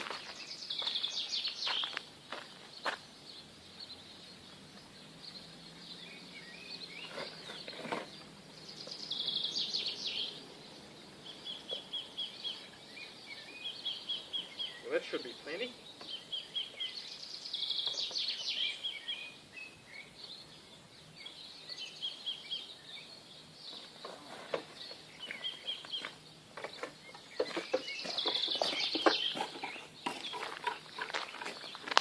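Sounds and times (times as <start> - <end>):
birds chirping and singing: 0.0 - 32.0.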